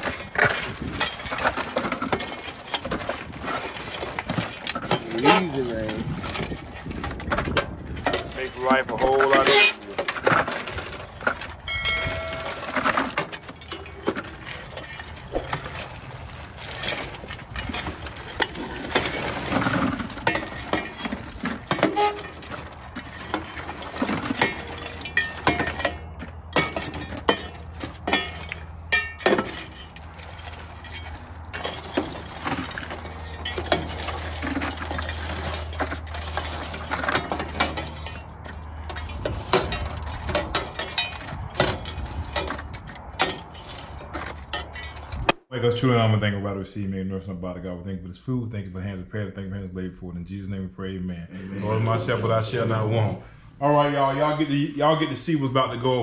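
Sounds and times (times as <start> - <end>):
hard objects clinking and clattering: 0.0 - 45.4.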